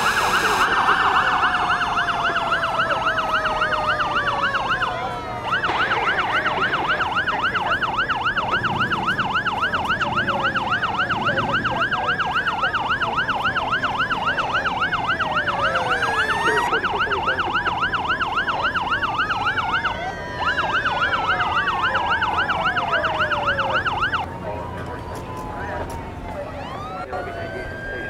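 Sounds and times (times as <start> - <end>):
fire engine siren yelp: 0.0 - 28.0
siren wails: 0.0 - 28.0.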